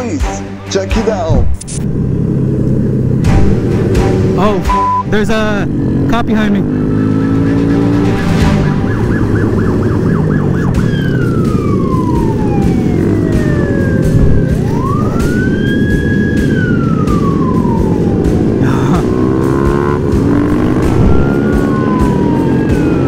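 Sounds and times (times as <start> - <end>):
motorcycle running: 1.8 - 23.0
police siren: 3.3 - 23.0.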